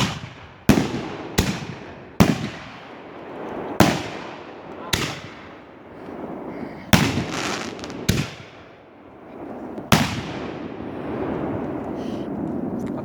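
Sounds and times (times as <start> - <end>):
fireworks bangs: 0.0 - 12.7.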